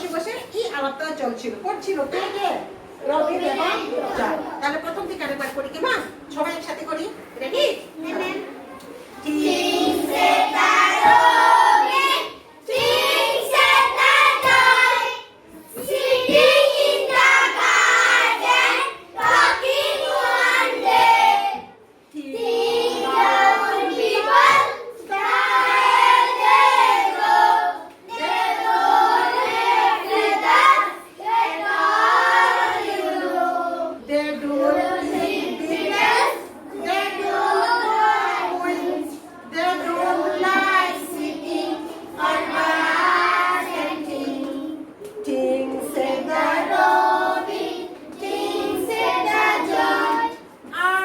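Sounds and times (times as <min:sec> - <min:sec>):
children singing together: 0:09.2 - 0:51.0.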